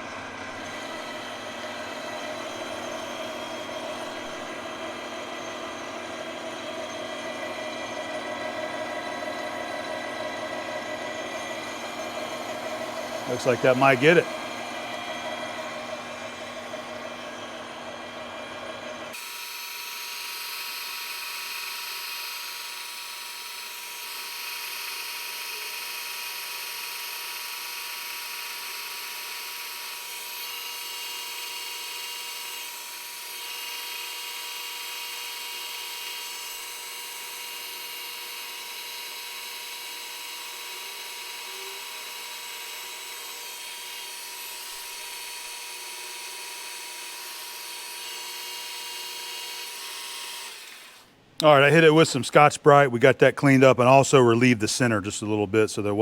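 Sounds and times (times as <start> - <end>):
lathe whirring and hissing: 0.0 - 52.2.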